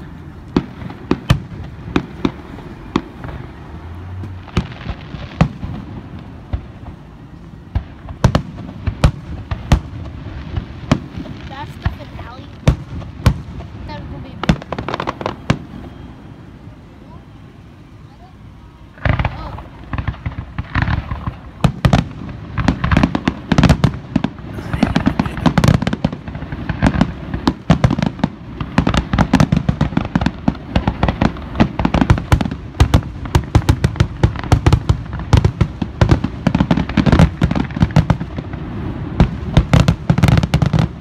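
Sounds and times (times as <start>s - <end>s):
fireworks booming: 0.0s - 16.3s, 19.0s - 41.0s.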